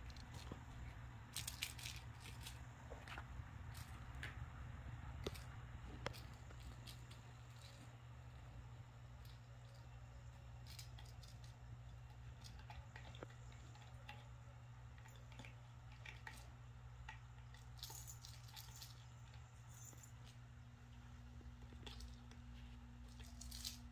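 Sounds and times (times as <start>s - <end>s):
kittens scuffling and scratching: 0.0s - 23.9s
steady low hum: 0.0s - 23.9s.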